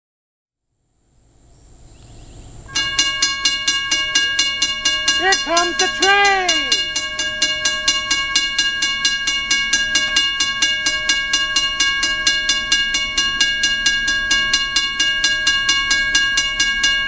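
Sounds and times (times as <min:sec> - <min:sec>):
railroad crossing bell ringing: 0:02.7 - 0:17.0.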